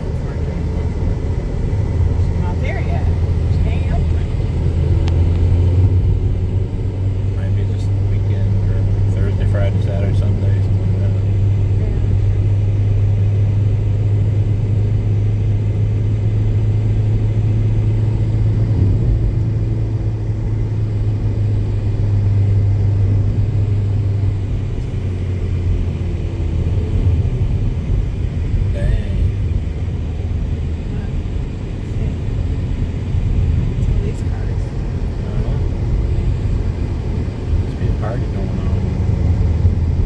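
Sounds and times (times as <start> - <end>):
car cabin engine and road noise: 0.0 - 40.0.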